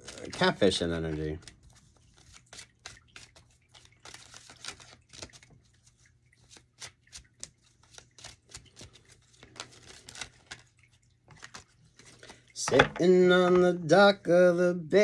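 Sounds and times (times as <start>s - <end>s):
cards being shuffled by hand: 0.0s - 13.6s.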